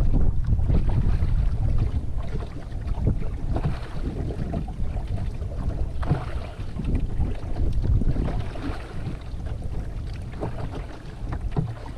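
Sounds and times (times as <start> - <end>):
water lapping against canoe hull: 0.0 - 11.9
wind buffeting microphone: 0.0 - 11.9.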